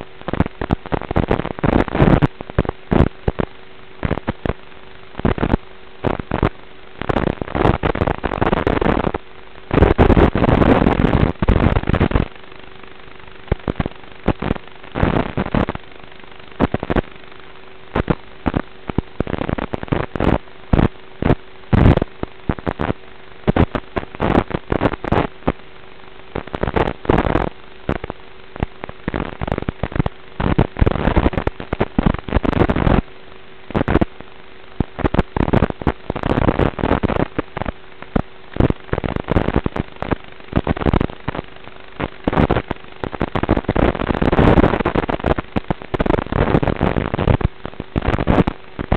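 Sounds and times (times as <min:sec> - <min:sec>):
radio static crackling: 0:00.0 - 0:48.9
steady hum: 0:00.0 - 0:48.9.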